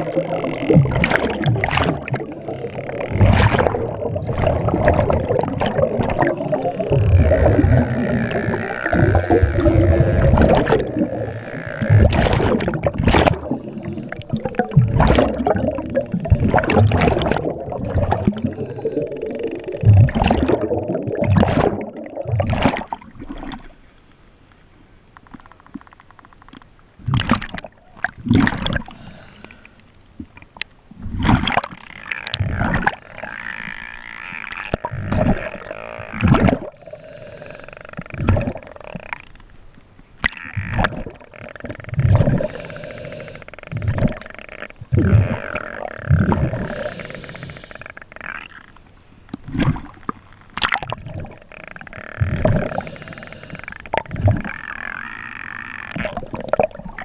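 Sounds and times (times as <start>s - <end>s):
water rushing against camera: 0.0s - 23.8s, 27.0s - 29.6s, 30.2s - 57.0s.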